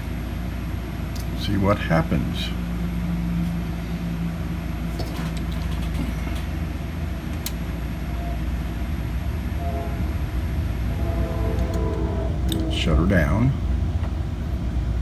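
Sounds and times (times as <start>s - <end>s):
computer fans whirring: 0.0s - 15.0s.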